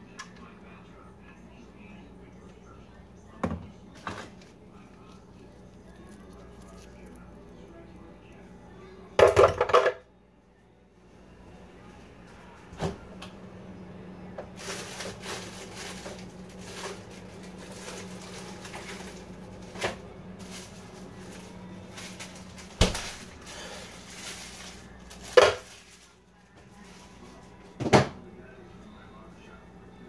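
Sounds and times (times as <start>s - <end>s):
steady low hum: 0.0s - 9.2s, 10.1s - 30.0s.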